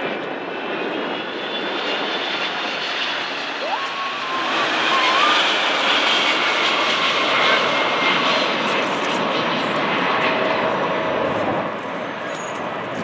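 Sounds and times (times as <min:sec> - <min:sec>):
jet airliner passing: 0:00.0 - 0:13.0.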